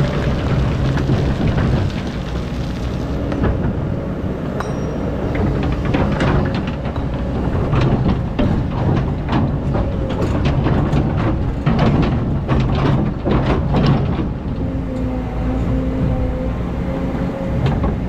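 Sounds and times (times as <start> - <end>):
excavator diesel engine: 0.0 - 18.0.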